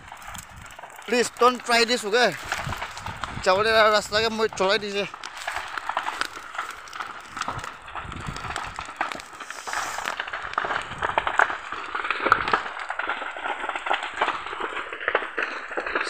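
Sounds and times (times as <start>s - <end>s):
dry brush crackling and snapping: 0.0s - 16.0s.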